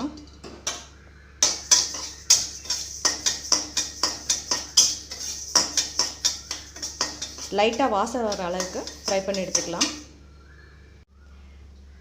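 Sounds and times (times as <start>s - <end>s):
spatula knocking and scraping a pan: 0.4s - 10.1s.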